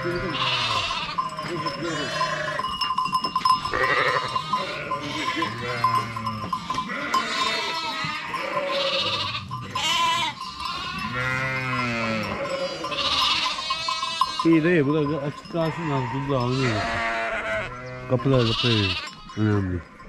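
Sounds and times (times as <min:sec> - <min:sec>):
sheep and lambs bleating: 0:00.0 - 0:20.0.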